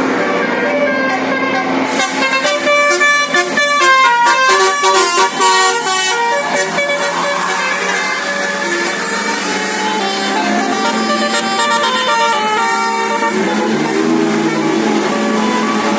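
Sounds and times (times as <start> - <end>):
bus musical horn melody: 0.0 - 15.9
traffic noise: 0.0 - 15.9.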